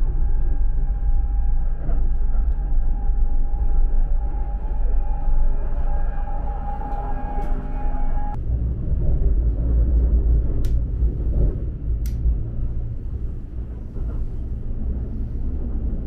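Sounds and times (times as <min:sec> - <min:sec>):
train rumbling inside compartment: 0:00.0 - 0:16.0.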